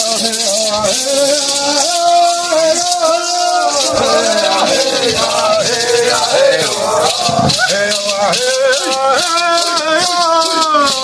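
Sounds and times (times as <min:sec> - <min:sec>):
maracas shaking: 0:00.0 - 0:11.0
person chanting: 0:00.9 - 0:11.0.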